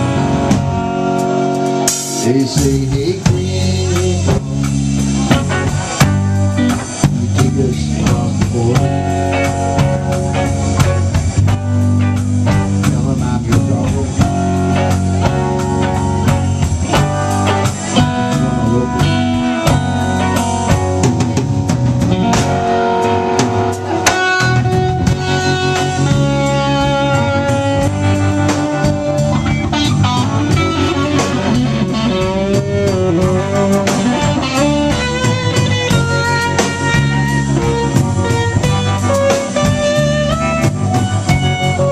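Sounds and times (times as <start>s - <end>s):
lead guitar sustained notes: 0.0s - 41.9s
live rock band playing: 0.0s - 41.9s.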